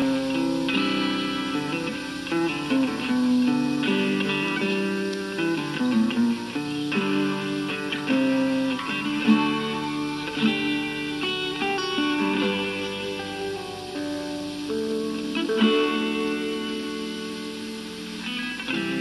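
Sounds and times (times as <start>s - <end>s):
guitar music: 0.0s - 19.0s.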